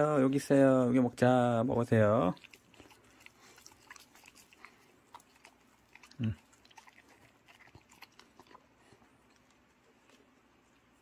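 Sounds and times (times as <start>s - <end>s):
dogs chewing and licking: 1.6s - 11.0s.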